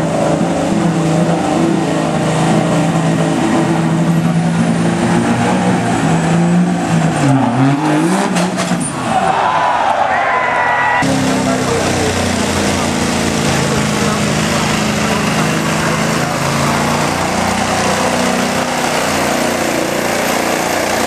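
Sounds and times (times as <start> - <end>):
diesel truck engine revving: 0.0 - 10.1, 11.0 - 21.0.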